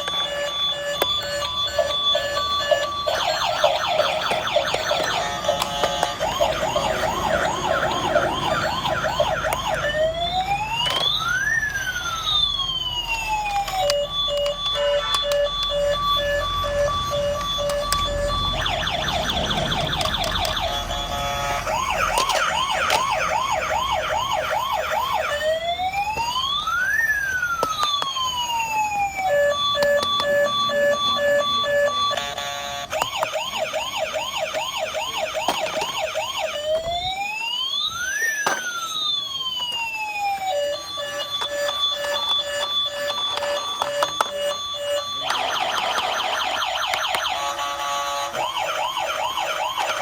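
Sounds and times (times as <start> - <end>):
electronic toy siren: 0.0 - 50.0.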